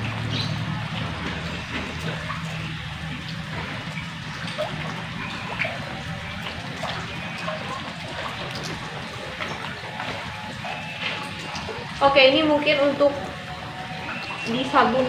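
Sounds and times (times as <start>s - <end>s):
water drips: 0.0s - 15.0s
water trickling: 0.0s - 15.0s.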